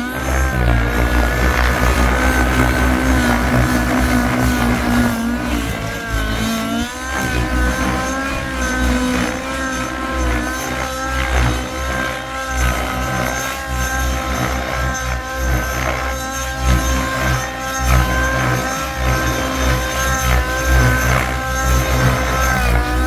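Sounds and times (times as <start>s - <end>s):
model helicopter engine high revs: 0.0s - 23.0s.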